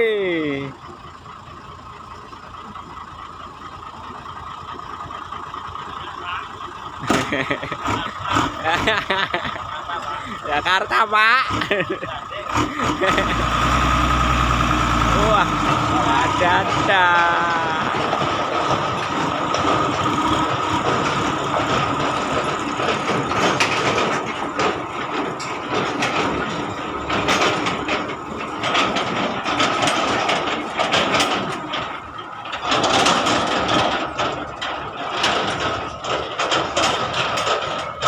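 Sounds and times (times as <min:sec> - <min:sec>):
diesel truck engine running: 0:00.0 - 0:38.0
bodywork clanks and rattles: 0:02.2 - 0:38.0.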